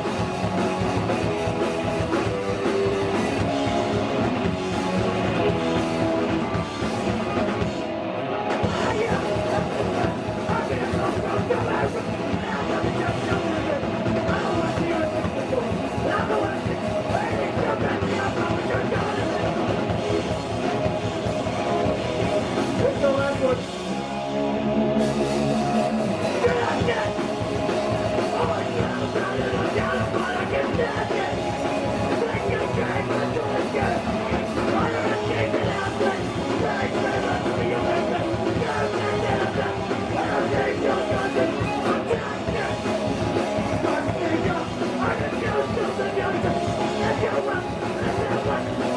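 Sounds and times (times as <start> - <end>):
punk band playing: 0.0 - 48.9.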